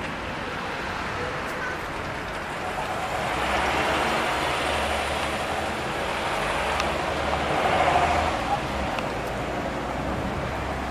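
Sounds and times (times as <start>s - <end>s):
passing vehicle rumble: 0.0s - 10.9s.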